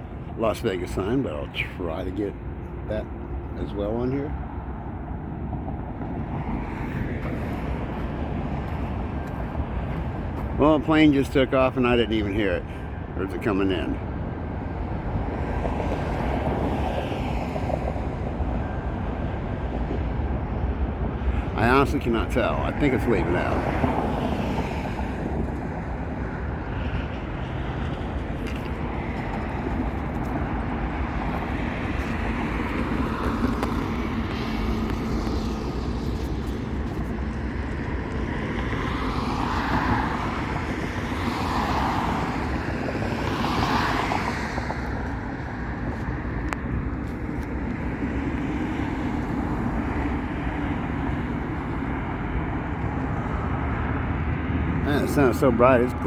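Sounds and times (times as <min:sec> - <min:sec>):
jet aircraft noise: 0:00.0 - 0:56.0
road traffic rumble: 0:00.0 - 0:56.0.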